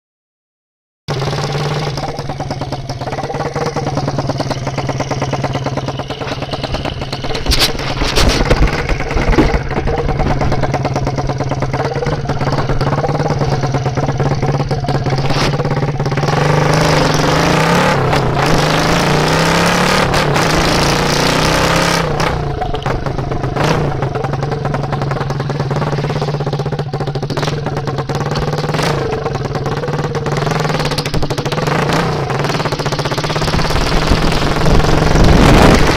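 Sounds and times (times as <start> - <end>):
motorcycle engine idling and revving: 1.1 - 35.9
sharp engine knocks: 1.4 - 17.5, 22.1 - 35.9.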